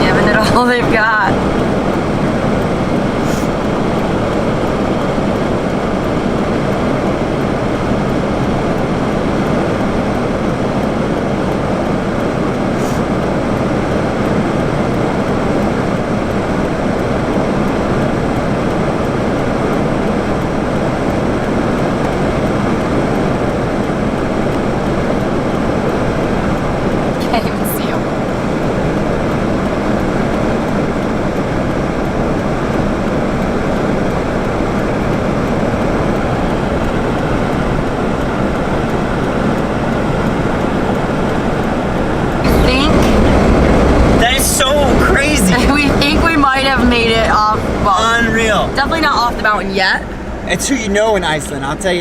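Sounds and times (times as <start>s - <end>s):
blizzard wind buffeting microphone: 0.0s - 52.0s.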